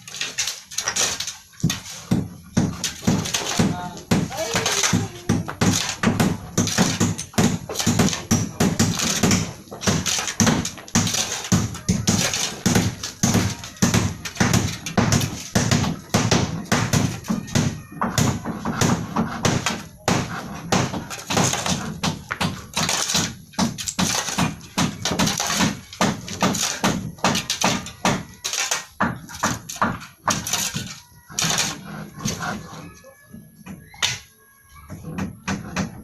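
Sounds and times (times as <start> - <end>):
dull thuds: 0.8 - 34.0.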